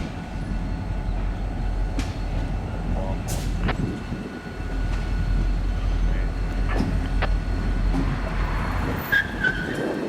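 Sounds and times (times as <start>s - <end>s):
diesel locomotive rumbling: 0.0s - 10.0s.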